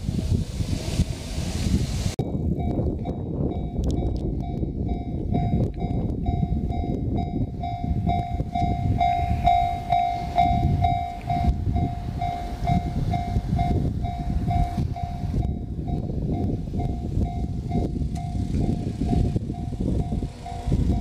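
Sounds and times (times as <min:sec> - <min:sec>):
low rumble of passing train: 0:00.0 - 0:21.0.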